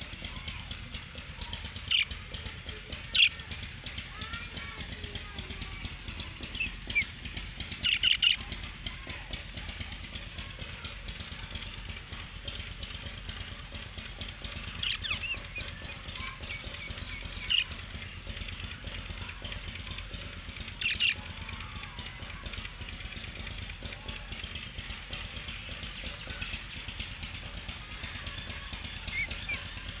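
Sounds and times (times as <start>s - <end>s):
low background hum: 0.0s - 30.0s
parrots chirping: 1.3s - 3.6s, 4.2s - 11.8s, 13.6s - 22.2s, 24.6s - 30.0s.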